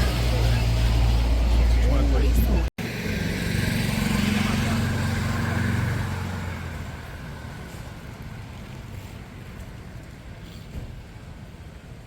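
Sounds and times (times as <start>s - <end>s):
street traffic rumble: 0.0s - 12.0s
vehicle engine: 0.0s - 12.0s.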